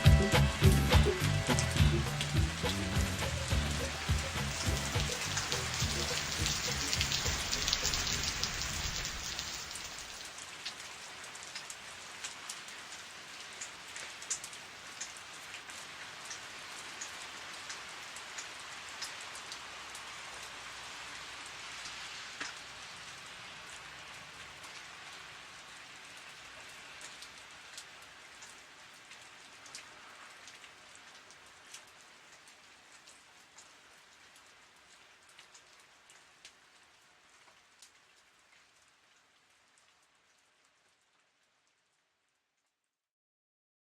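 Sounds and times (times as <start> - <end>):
raindrops pattering: 0.0 - 42.1
steady rain: 0.0 - 42.4.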